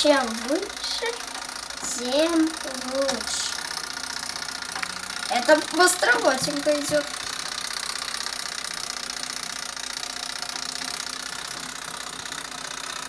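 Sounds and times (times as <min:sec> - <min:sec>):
fast mechanical timer ticking: 0:00.0 - 0:13.0.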